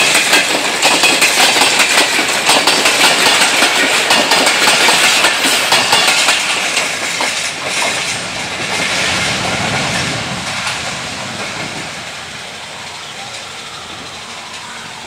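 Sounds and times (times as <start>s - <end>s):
train coaches rolling past: 0.0s - 15.0s
wheels clicking over rail joints: 0.0s - 15.0s.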